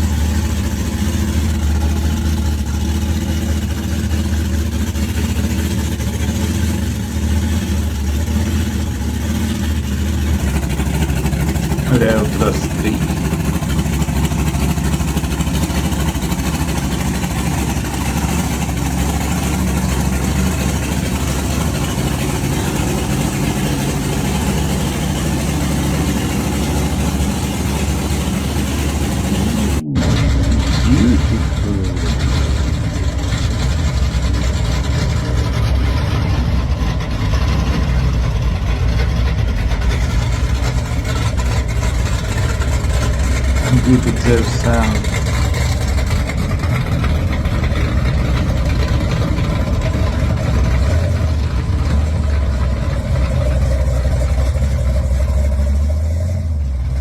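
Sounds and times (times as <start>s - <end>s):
hot rod engines revving: 0.0s - 57.0s.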